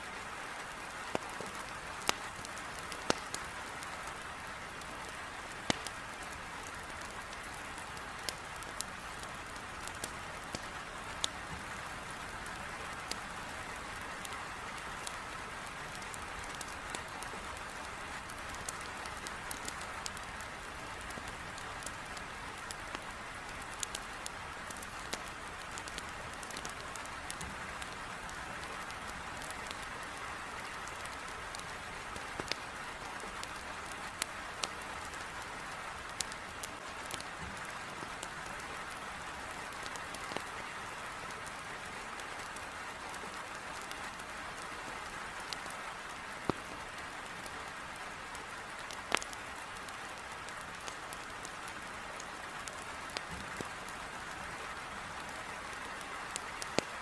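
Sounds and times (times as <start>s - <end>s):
wood fire crackling: 0.2s - 57.0s.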